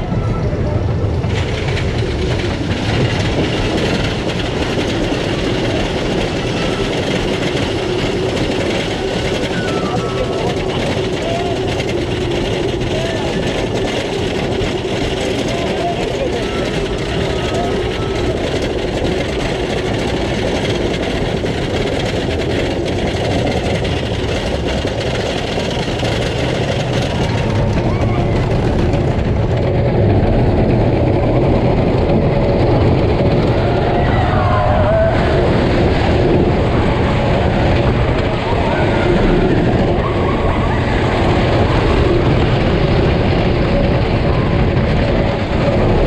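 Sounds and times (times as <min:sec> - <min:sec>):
roller coaster chain lift clatter: 0:00.0 - 0:46.0.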